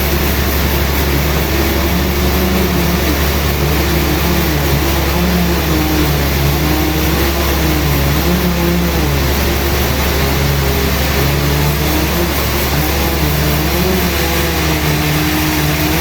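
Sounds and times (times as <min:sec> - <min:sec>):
sawmill machinery droning: 0:00.0 - 0:16.0.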